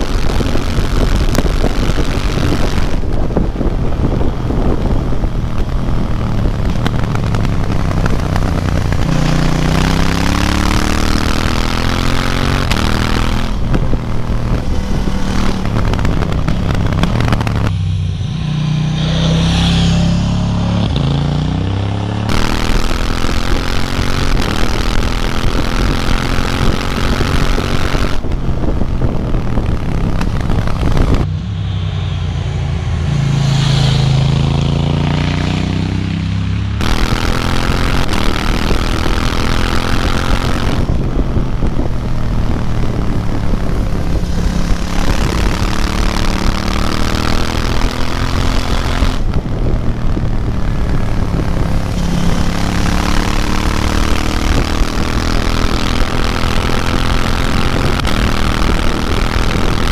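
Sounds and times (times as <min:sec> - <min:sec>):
motorcycle engine revving: 0:00.0 - 0:59.9
wind rush on microphone: 0:00.0 - 0:59.9.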